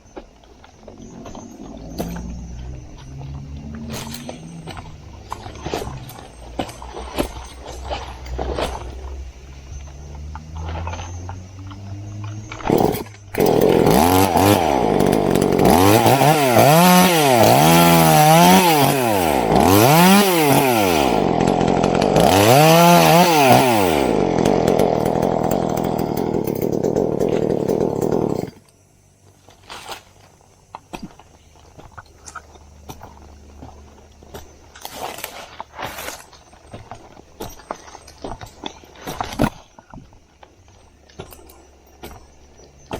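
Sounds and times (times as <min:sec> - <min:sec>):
chainsaw cutting wood: 0:00.4 - 0:28.7, 0:30.9 - 0:42.9.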